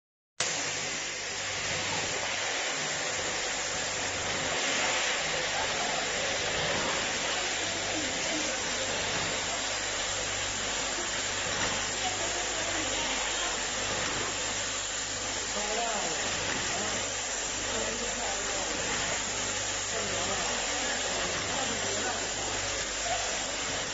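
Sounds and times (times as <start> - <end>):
bottling machine running: 0.4 - 23.9.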